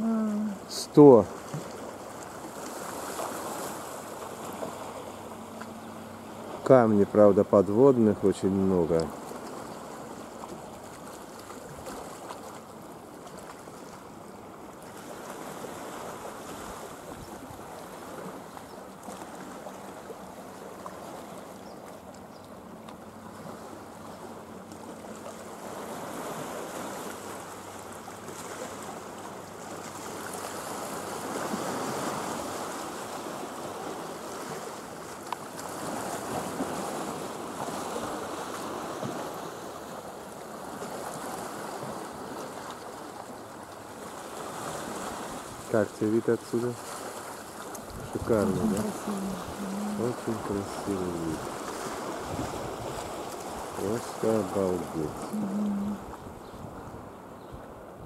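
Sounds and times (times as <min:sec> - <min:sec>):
waves washing on stony shore: 0:00.0 - 0:57.1.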